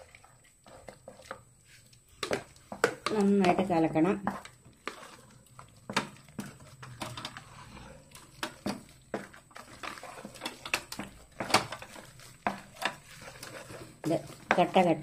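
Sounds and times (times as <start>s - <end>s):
spatula scraping metal pot: 0.0s - 15.0s.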